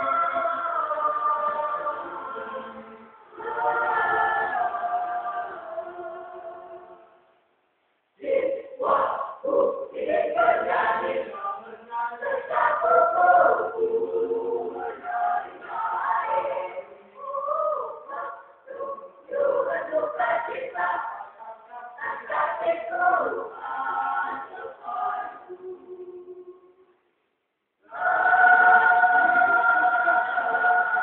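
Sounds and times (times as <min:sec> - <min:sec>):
youth choir singing: 0:00.0 - 0:07.2, 0:08.2 - 0:26.7, 0:27.8 - 0:31.0.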